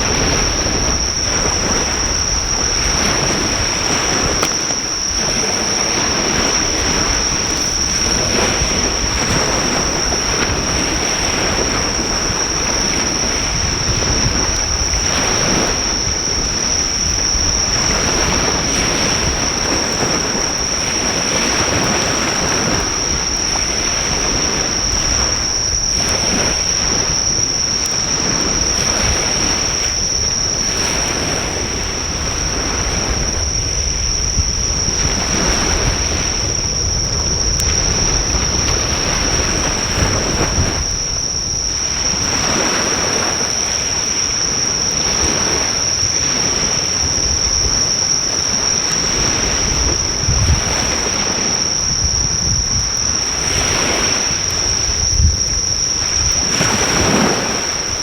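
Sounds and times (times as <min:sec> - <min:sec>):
insects trilling: 0:00.0 - 0:58.0
surf breaking on shore: 0:00.0 - 0:58.0.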